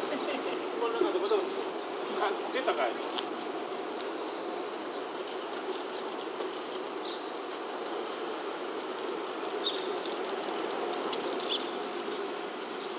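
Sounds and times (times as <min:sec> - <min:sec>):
distant electric train hum: 0:00.0 - 0:12.9.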